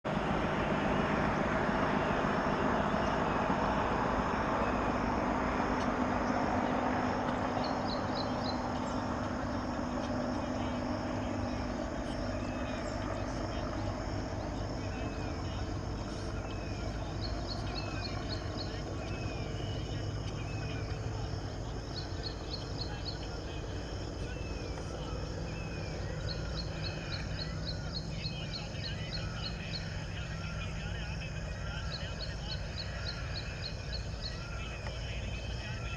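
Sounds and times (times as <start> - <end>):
birds chirping: 0.0 - 35.9
helicopter rotor drone: 0.0 - 35.9
low rumble: 0.0 - 35.9.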